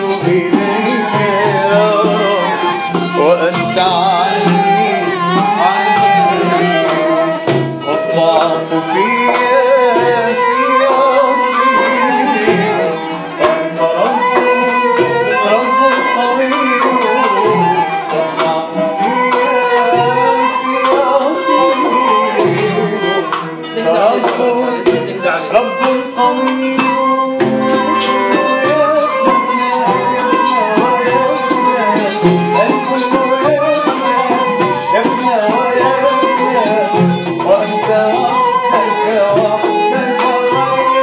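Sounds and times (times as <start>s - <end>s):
hand drums rhythm: 0.0s - 41.0s
violin melody with vibrato: 0.0s - 41.0s.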